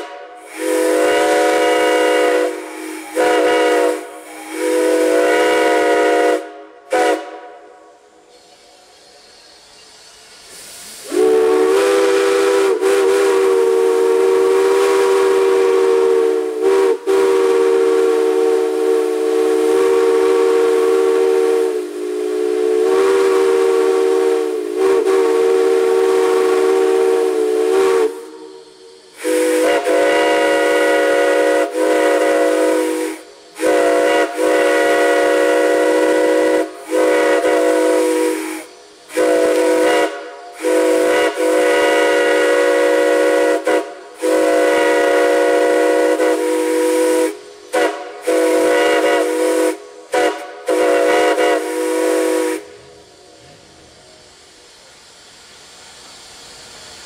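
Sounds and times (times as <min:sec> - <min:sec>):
steam hissing: 0:00.0 - 0:57.0.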